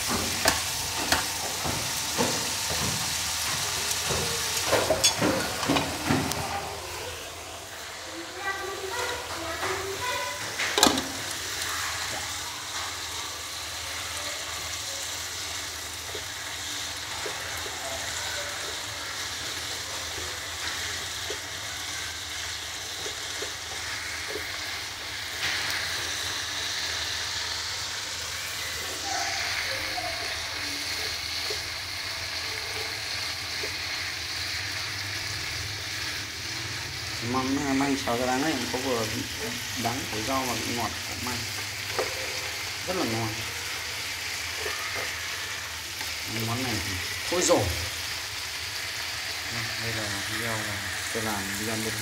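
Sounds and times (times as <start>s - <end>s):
vegetables sizzling in a pan: 0.0s - 52.0s.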